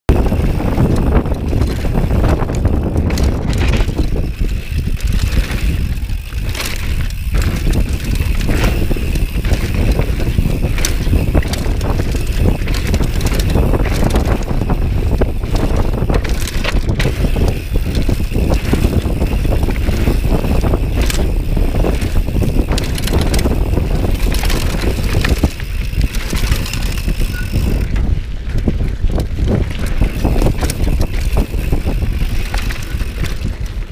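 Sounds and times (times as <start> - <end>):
bike rattling over bumps: 0.1 - 33.9
tyres rolling over gravel: 0.1 - 33.9
wind rushing over microphone: 0.1 - 33.9.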